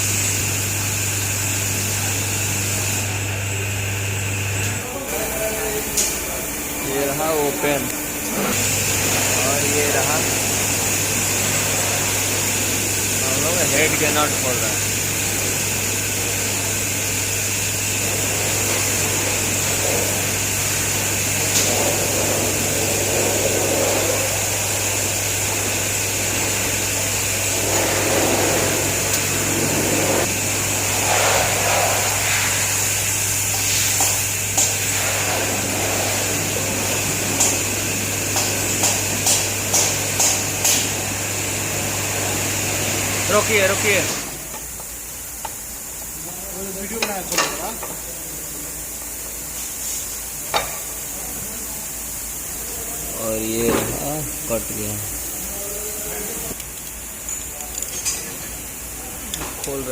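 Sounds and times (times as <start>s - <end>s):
steady low hum: 0.0s - 49.4s.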